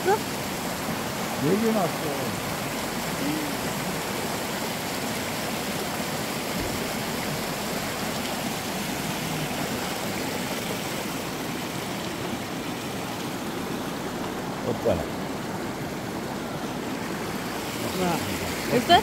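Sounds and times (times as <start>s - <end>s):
stream flowing over rocks: 0.0s - 19.0s.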